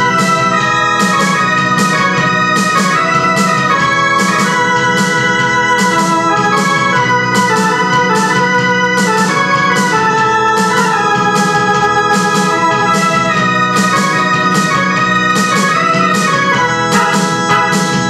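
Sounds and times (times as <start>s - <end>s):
electronic keyboard melody: 0.0s - 18.0s
ticking beat: 0.0s - 18.0s.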